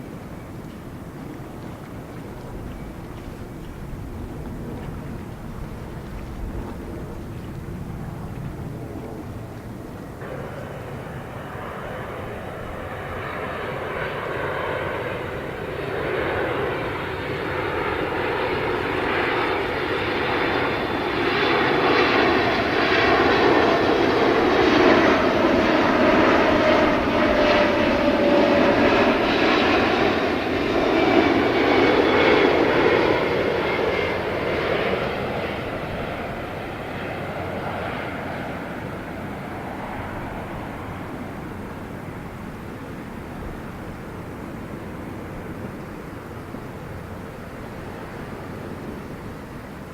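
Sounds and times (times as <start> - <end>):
jet airliner engines passing by: 0.0 - 49.9.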